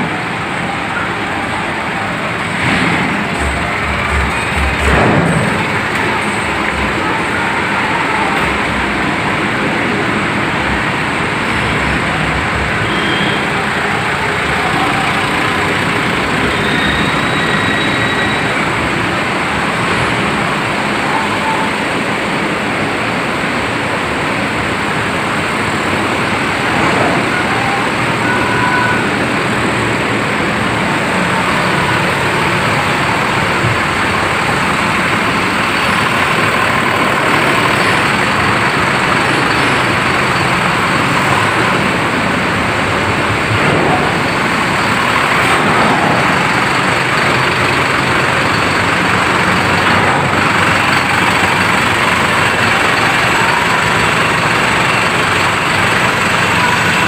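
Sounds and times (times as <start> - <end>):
loud mechanical noise: 0.0 - 57.0.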